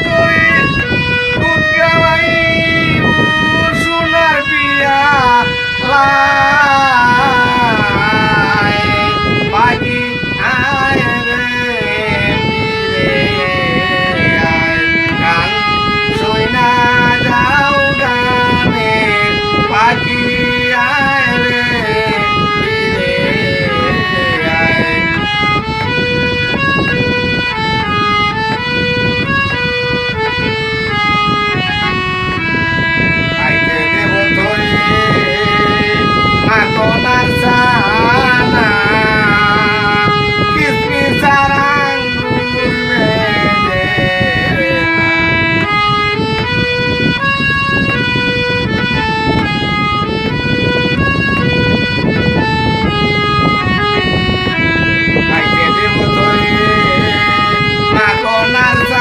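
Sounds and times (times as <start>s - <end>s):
folk music melody of held notes: 0.0s - 59.0s.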